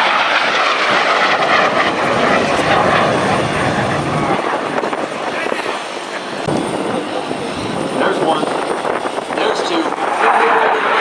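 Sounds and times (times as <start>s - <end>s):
aircraft flying past: 0.0s - 11.0s.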